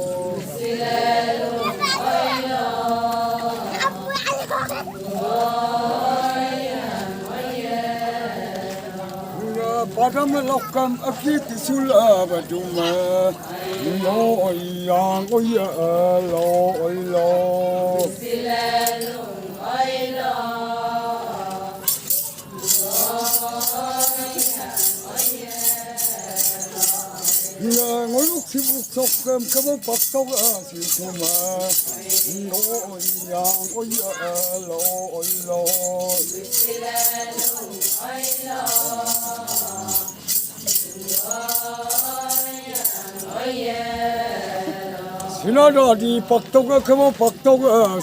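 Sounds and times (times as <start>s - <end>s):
group of voices chanting: 0.0s - 15.6s, 16.3s - 28.8s, 29.6s - 40.3s
rattle jingling: 0.7s - 44.8s.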